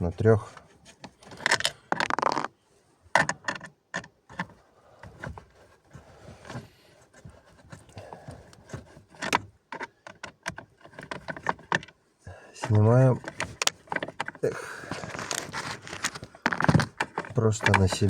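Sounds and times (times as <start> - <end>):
scraping on plastic: 0.4 - 2.5, 3.3 - 11.9, 12.6 - 18.0.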